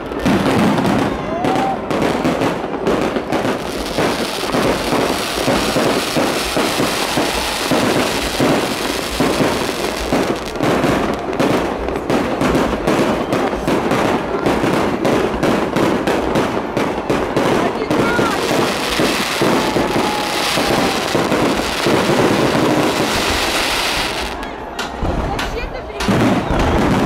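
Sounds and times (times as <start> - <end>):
fireworks bursts and crackling: 0.0 - 27.0.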